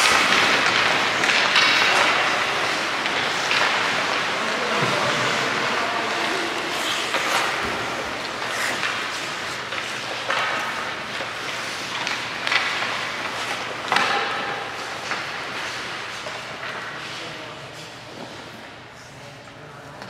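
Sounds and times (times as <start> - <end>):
hockey sticks and pucks clacking: 0.0 - 18.8.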